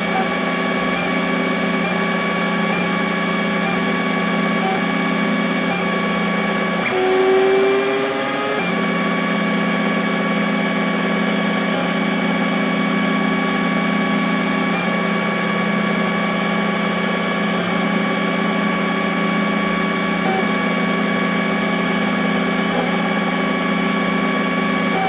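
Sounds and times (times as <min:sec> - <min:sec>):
printer stepper motors whining: 0:00.0 - 0:25.0.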